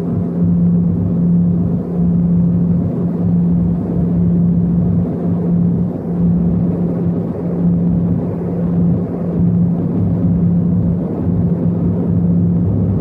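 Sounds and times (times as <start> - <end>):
propeller plane engines droning: 0.0 - 13.0.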